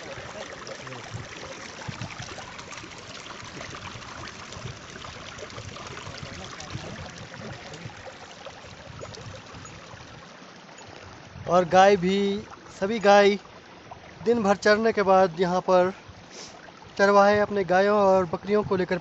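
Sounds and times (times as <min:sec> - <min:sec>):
small water splashes: 0:00.0 - 0:19.0
stream water rushing: 0:00.0 - 0:19.0.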